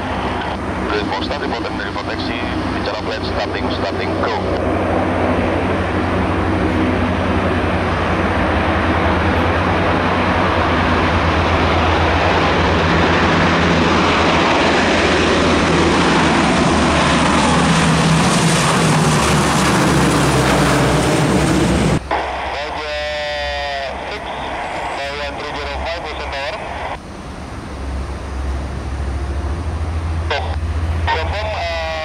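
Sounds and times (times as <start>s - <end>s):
propeller aircraft engines droning: 0.0s - 32.0s.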